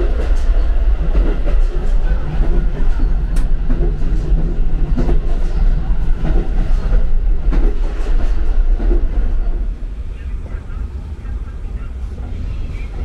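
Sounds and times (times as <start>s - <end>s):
train running gear rumbling: 0.0s - 13.0s.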